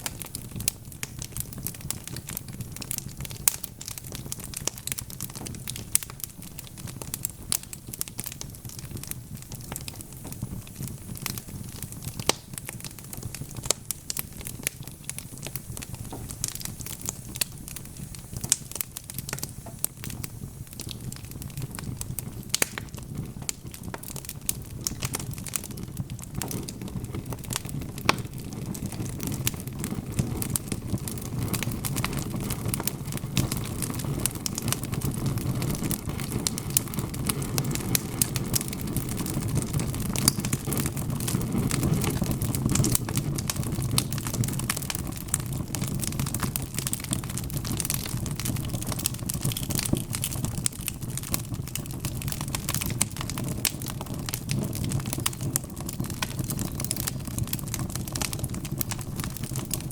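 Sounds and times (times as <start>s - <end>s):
flames hissing and rumbling: 0.0s - 59.9s
wood fire crackling and popping: 0.0s - 59.9s.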